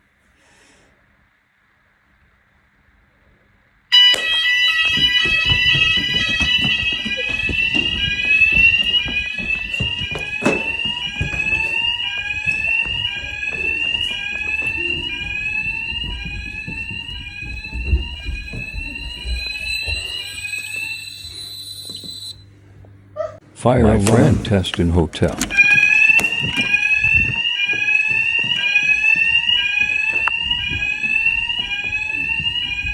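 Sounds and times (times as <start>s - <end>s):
fire alarm sounders: 3.9s - 32.9s.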